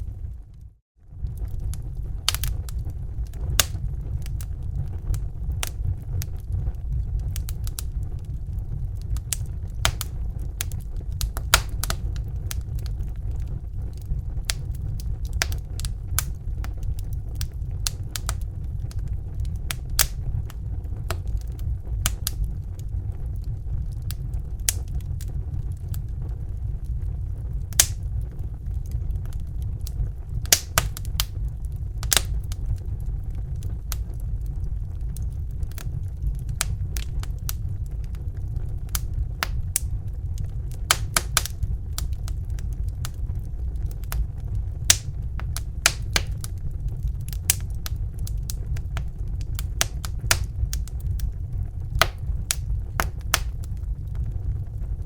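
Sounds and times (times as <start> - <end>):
fire crackling with snaps and pops: 0.0 - 55.0
low rumble: 0.0 - 55.0.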